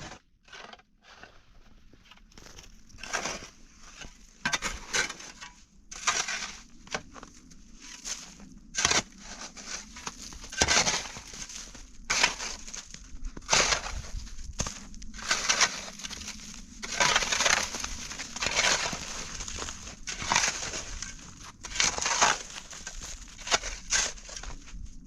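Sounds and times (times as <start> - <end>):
footsteps crunching through snow: 1.1 - 4.3, 6.3 - 8.6, 9.2 - 25.0.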